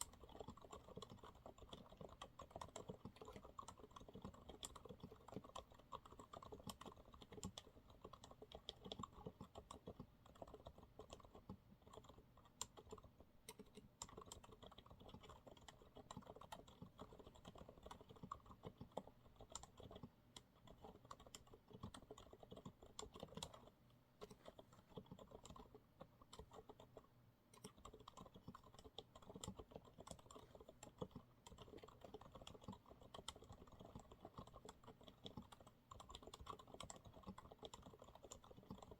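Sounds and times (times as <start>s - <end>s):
soft keyboard typing: 0.0s - 38.9s.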